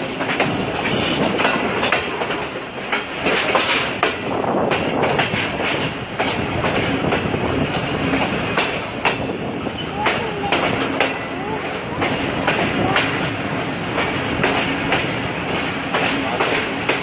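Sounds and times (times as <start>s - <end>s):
train rolling rumble: 0.0s - 17.0s
wheels clicking over rail joints: 0.0s - 17.0s.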